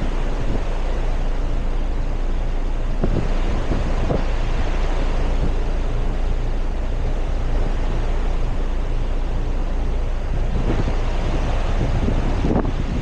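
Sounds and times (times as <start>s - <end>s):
heat pump humming: 0.0s - 13.0s
rush of air: 0.0s - 13.0s.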